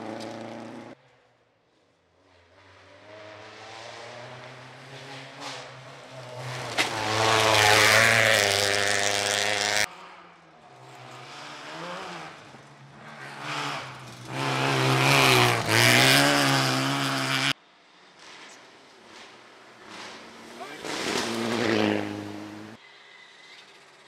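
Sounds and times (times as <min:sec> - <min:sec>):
rally car engines revving: 0:00.0 - 0:01.0, 0:02.2 - 0:22.8
faint engine: 0:00.0 - 0:24.0.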